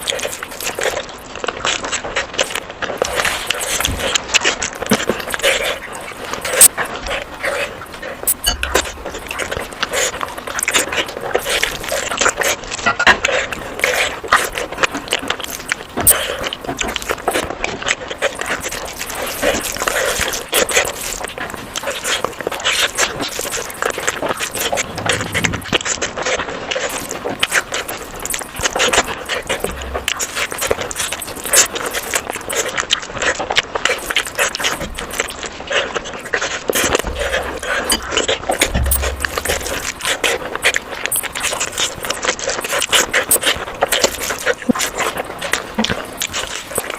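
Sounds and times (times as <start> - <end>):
chewing with wet mouth smacks: 0.0 - 46.9.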